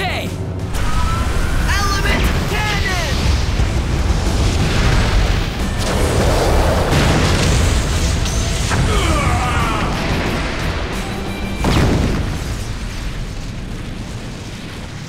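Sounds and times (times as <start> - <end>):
action music: 0.0 - 14.5
rushing flame noise: 0.5 - 15.0
cartoon explosion booming rumble: 0.6 - 11.0, 11.6 - 14.9.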